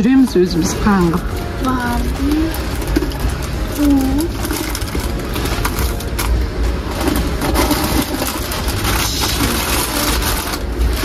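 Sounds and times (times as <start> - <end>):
plastic packets crinkling: 0.0 - 11.0
train carriage rumble: 0.0 - 11.0.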